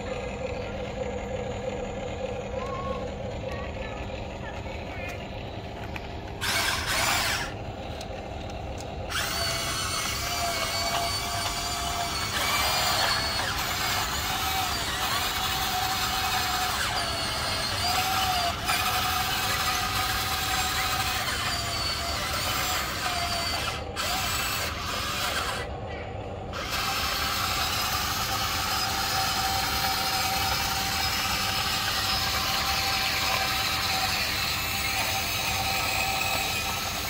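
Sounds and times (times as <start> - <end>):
small electric motors whining: 0.0 - 37.0.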